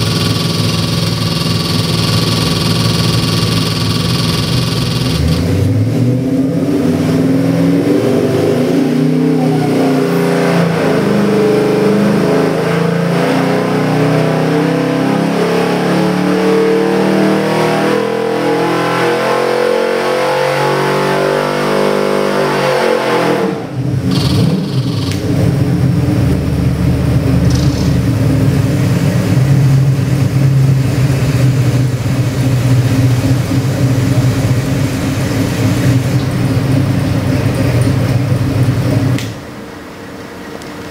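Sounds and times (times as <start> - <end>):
car engine revving: 0.0 - 39.5.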